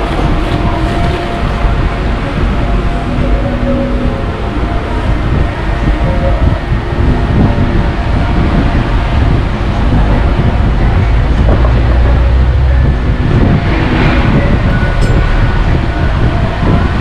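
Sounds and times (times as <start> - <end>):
road noise: 0.0 - 17.0
truck diesel engine rumble: 0.0 - 17.0.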